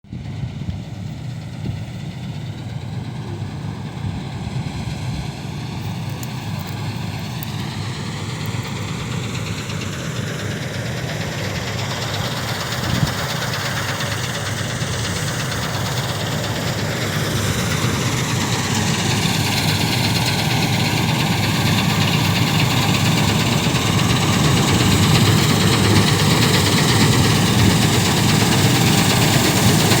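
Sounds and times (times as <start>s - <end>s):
combine harvester running: 0.1s - 30.0s.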